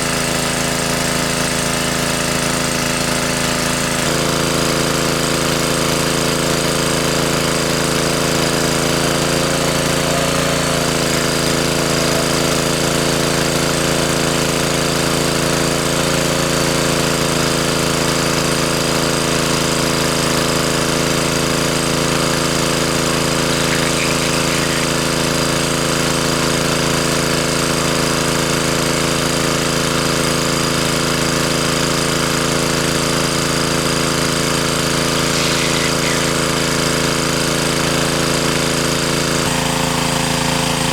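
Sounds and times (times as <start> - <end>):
small engine running steadily: 0.0 - 40.9.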